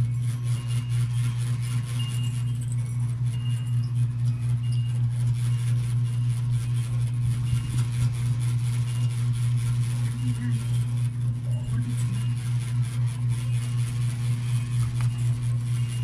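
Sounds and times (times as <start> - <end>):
electric fan motor hum: 0.0 - 16.0.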